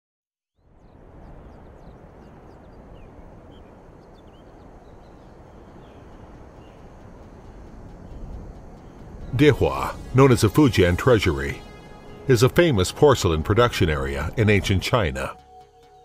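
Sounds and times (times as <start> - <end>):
birds chirping and whistling: 0.6 - 15.3
low rushing noise: 0.6 - 15.4.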